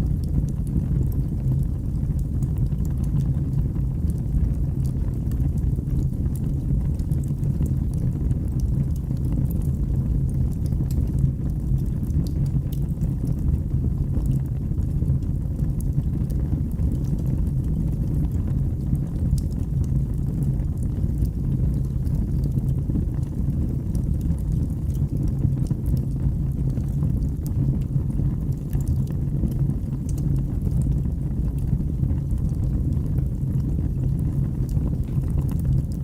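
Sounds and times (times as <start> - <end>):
fire crackling in fireplace: 0.0 - 36.0.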